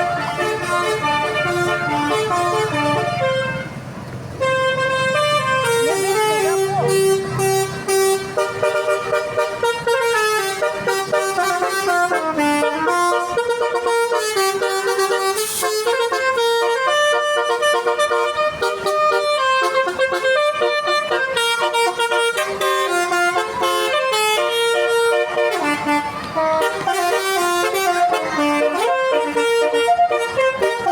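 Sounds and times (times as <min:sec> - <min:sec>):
musical bus air horns: 0:00.0 - 0:30.9.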